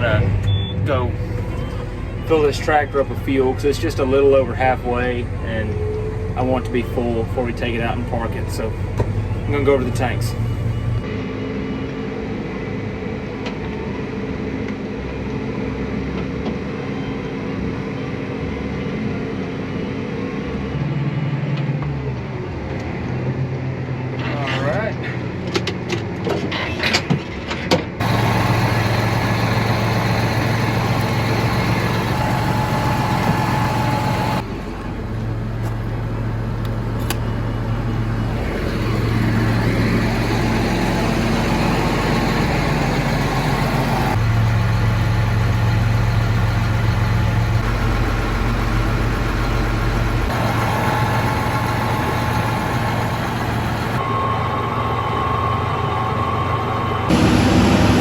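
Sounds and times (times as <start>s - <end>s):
farm vehicle engine droning: 0.0s - 24.1s, 28.0s - 58.0s.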